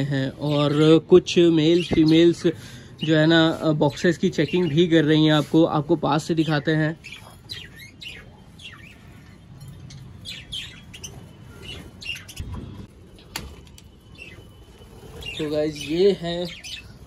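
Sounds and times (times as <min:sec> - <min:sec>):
budgerigars chirping and chattering: 0:00.0 - 0:12.5, 0:15.2 - 0:17.0.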